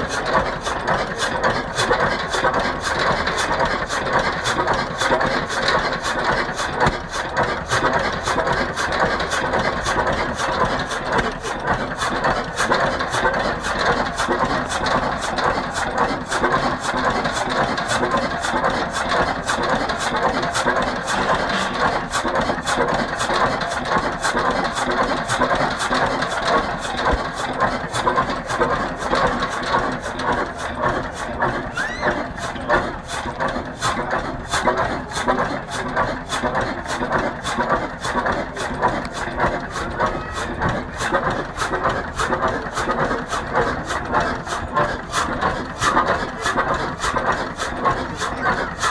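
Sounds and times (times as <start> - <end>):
engine knocking steadily: 0.0 - 48.9.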